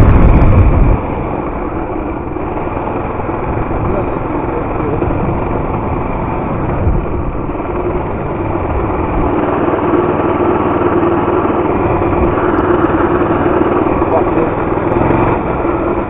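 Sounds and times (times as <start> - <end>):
small bike engine running: 0.0 - 16.0
wind rumble on microphone: 0.0 - 16.0.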